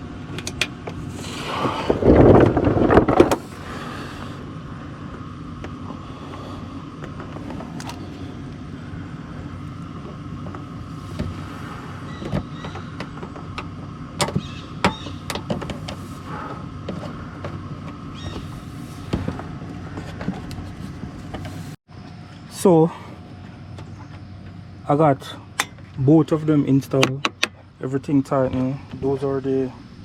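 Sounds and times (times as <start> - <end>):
steady background hum: 0.0 - 30.0.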